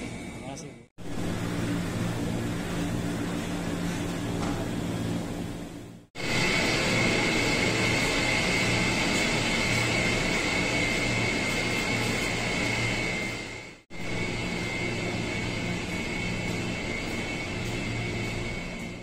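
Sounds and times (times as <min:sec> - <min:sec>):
electric trains droning: 0:00.0 - 0:19.0
high steady whine: 0:00.0 - 0:19.0.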